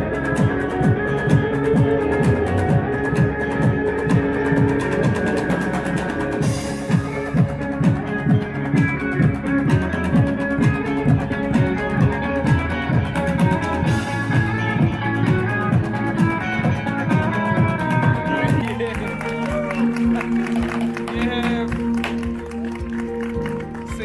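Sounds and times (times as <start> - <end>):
plucked guitar: 0.0 - 23.8.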